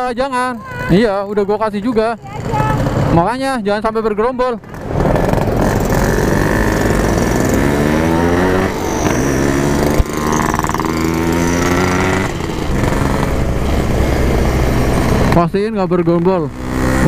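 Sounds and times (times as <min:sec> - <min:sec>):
motorcycle engine running: 0:00.4 - 0:03.3, 0:04.6 - 0:17.0.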